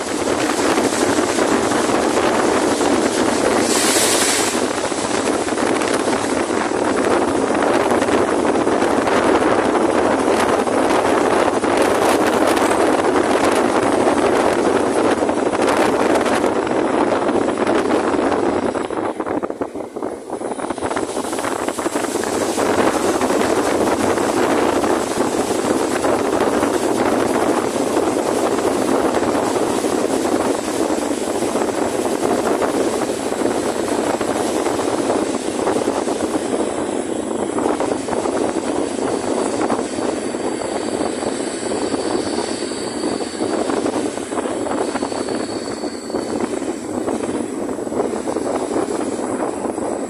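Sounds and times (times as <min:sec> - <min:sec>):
faint high whine: 0:00.0 - 0:50.0
wheel-on-rail noise: 0:00.0 - 0:50.0
wind rushing: 0:00.0 - 0:50.0.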